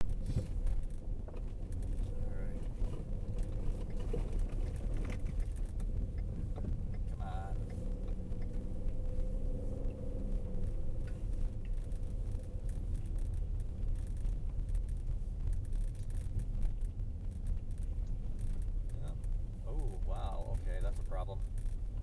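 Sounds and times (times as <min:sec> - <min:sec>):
constant hum: 0:00.0 - 0:22.0
vehicle driving rumble: 0:00.0 - 0:22.0.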